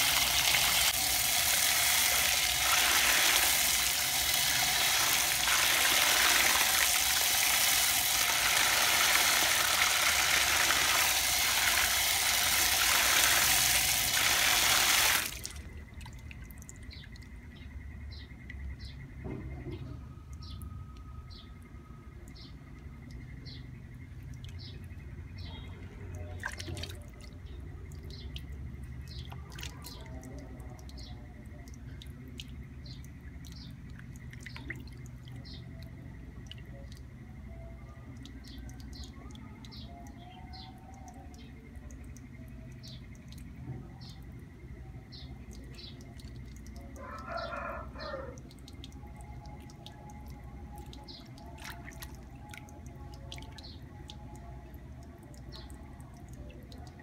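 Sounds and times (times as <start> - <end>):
water splashing and dripping: 0.0 - 57.0.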